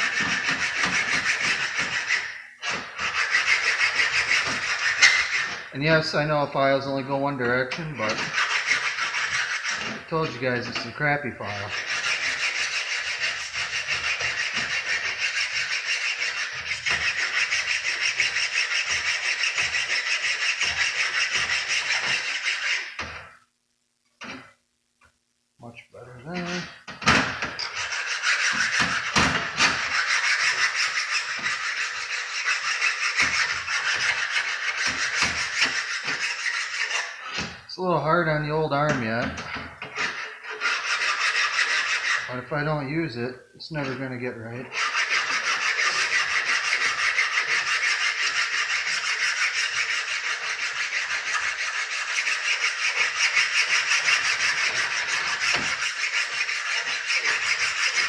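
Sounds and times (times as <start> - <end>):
metal file rasping on metal: 0.0 - 23.3, 26.3 - 37.6, 38.2 - 42.7, 43.8 - 58.0.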